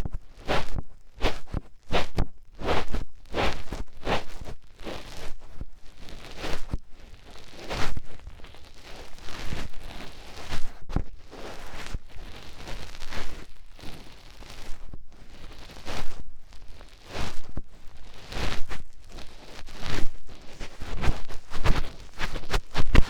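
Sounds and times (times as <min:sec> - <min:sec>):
fingers rubbing and scratching ear: 0:00.0 - 0:23.0.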